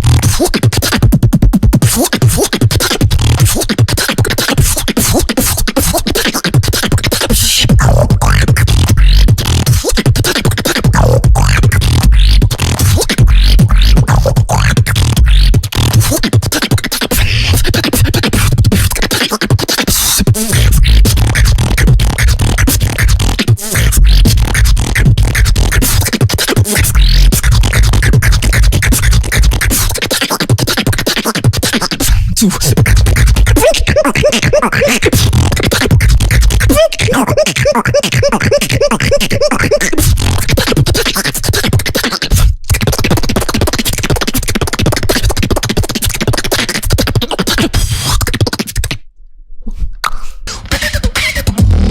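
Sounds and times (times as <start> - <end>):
beatboxing: 0.0 - 49.1, 49.7 - 51.9.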